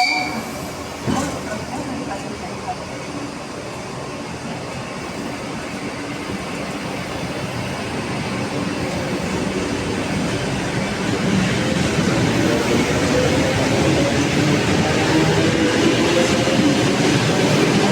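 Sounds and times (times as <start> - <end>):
train running on tracks: 0.0 - 17.9.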